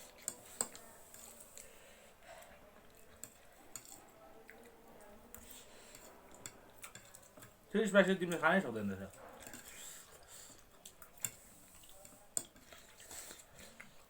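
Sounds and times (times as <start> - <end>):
chewing noodles: 0.0 - 7.7, 9.0 - 14.0.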